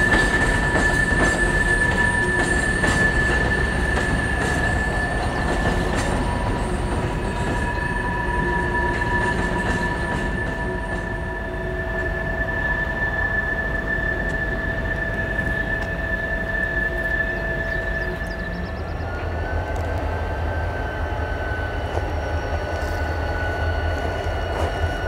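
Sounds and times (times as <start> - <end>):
train rumble: 0.0 - 25.0
train wheels squealing: 0.0 - 25.0.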